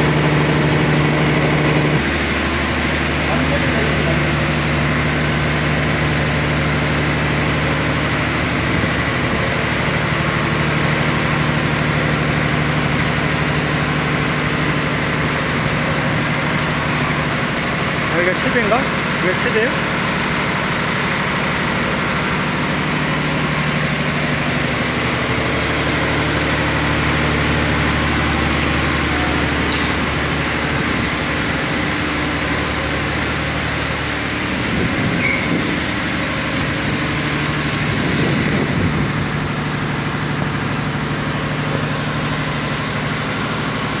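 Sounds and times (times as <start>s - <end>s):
diesel engine running steadily: 0.0s - 44.0s.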